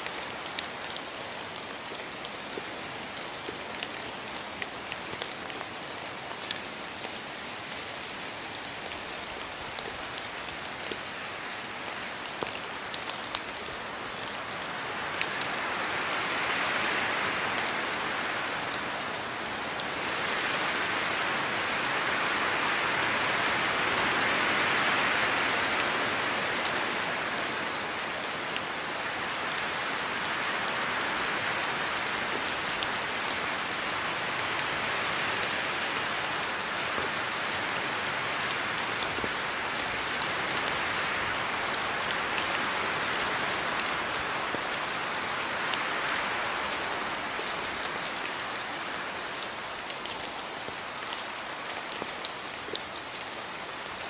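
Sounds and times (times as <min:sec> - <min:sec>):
heavy rain hiss: 0:00.0 - 0:54.0
sharp ticks of raindrops: 0:00.0 - 0:54.0.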